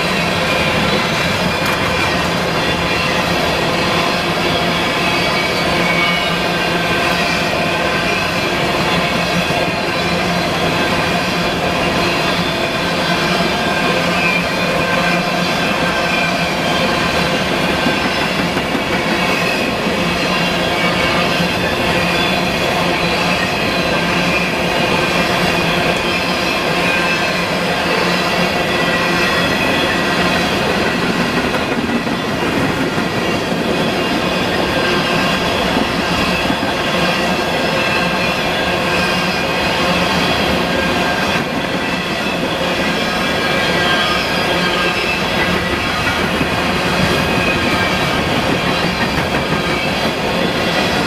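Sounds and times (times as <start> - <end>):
freight train rumble and clatter: 0.0 - 51.0
train wheels squealing on rails: 0.0 - 51.0.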